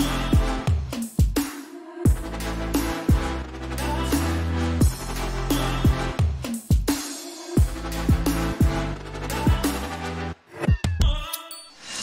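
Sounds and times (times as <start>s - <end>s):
electronic music with heavy bass: 0.0s - 11.5s.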